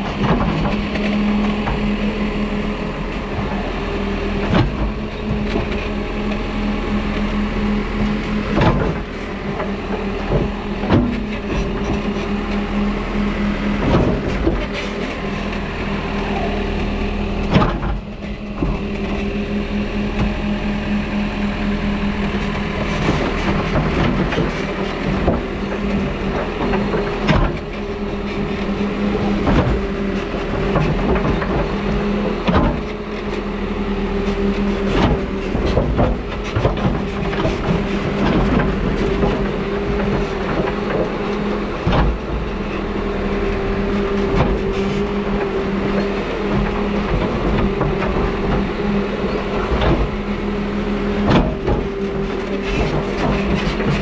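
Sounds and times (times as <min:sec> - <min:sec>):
diesel engine running: 0:00.0 - 0:54.0
digging equipment clanking: 0:00.0 - 0:54.0.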